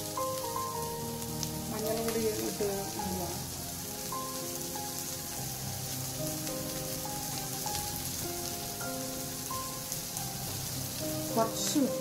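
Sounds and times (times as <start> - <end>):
instrumental background music: 0.0 - 12.0
vegetables sizzling in hot oil: 0.0 - 12.0.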